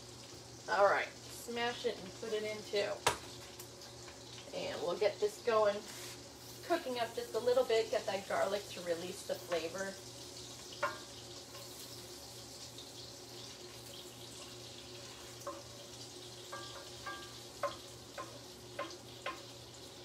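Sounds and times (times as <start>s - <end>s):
garlic sizzling in a pan: 0.0s - 20.0s
small pops and clicks of frying: 0.0s - 20.0s.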